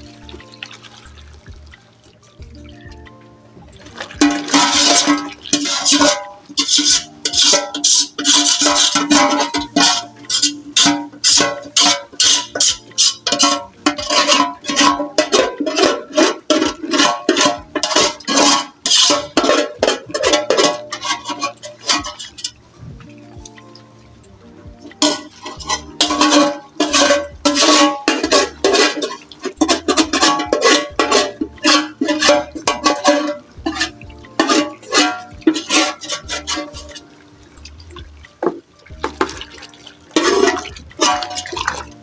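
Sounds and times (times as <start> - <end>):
background music: 0.0 - 42.0
spoon stirring in a bowl: 4.1 - 22.6, 24.9 - 37.1, 39.0 - 42.0.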